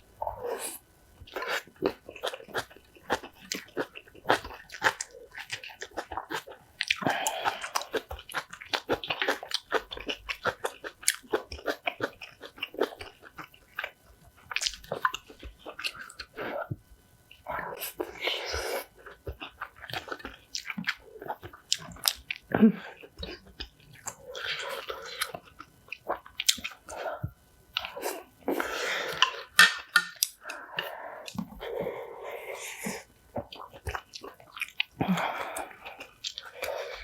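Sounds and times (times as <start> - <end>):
crunchy chewing of food: 0.1 - 37.0.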